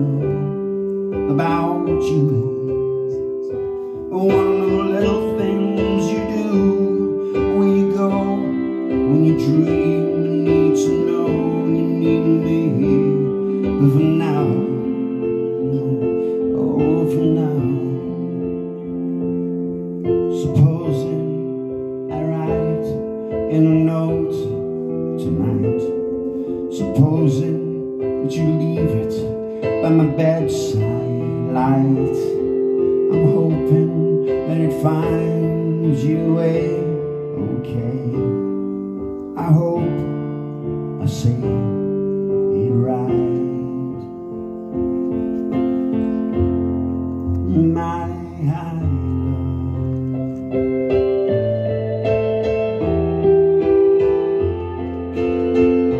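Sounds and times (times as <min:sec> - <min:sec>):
man singing: 0:00.0 - 0:55.9
stage piano chords: 0:00.0 - 0:55.9.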